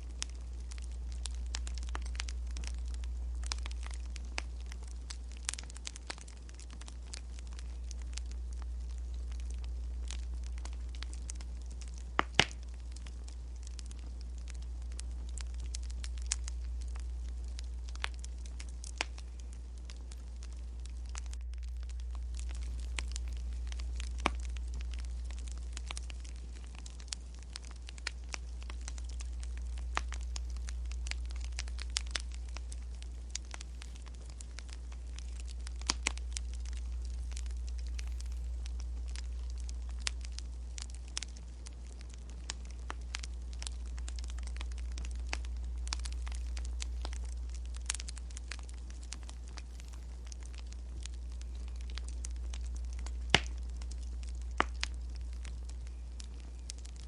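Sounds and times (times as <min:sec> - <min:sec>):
low rumble: 0:00.0 - 0:57.0
wood fire pops and snaps: 0:00.0 - 0:57.0.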